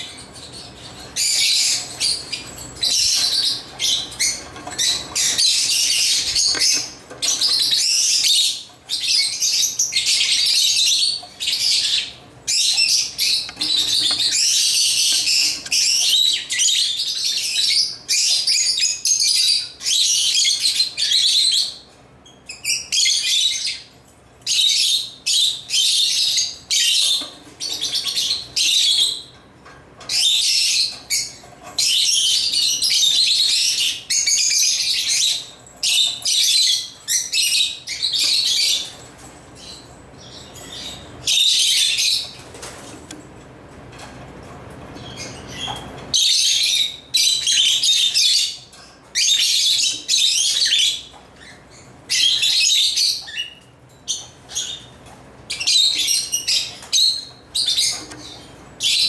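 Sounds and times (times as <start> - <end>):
birds chirping shrill chattering: 0.0 - 29.4, 30.0 - 42.9, 44.9 - 59.0.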